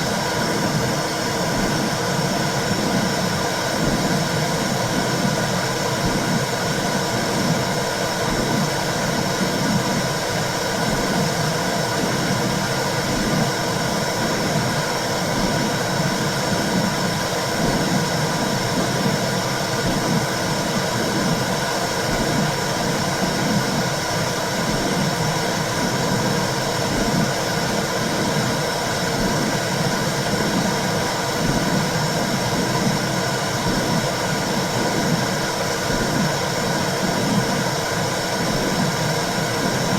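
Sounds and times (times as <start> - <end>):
low pulsing throb: 0.0 - 39.9.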